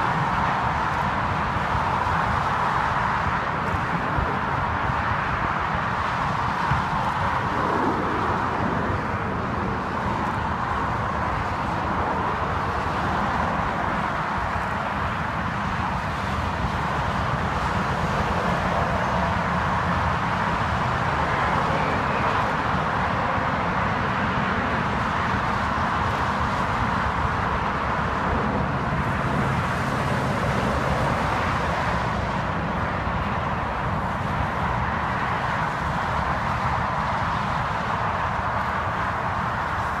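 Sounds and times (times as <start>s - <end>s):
jet bomber flying over: 0.0s - 40.0s
motorway traffic: 0.0s - 40.0s.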